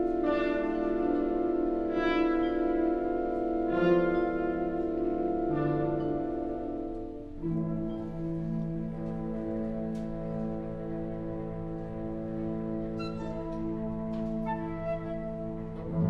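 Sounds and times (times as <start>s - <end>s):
wind band playing held chords: 0.0s - 16.0s.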